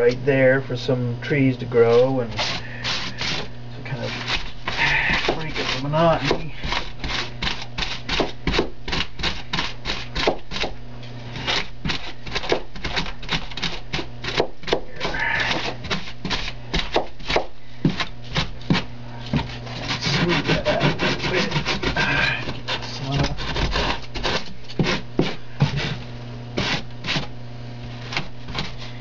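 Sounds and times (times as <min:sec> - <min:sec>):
steady low hum: 0:00.0 - 0:29.0
foam being scraped by hand: 0:01.8 - 0:29.0.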